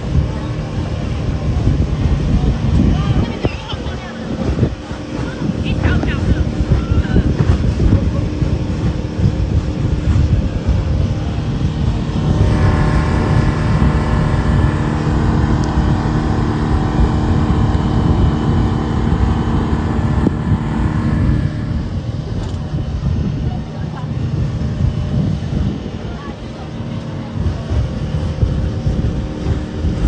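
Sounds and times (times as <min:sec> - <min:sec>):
high engine whine: 0:00.0 - 0:30.0
outboard motor drone: 0:00.0 - 0:30.0
water rushing: 0:00.0 - 0:30.0
wind buffeting microphone: 0:00.0 - 0:30.0.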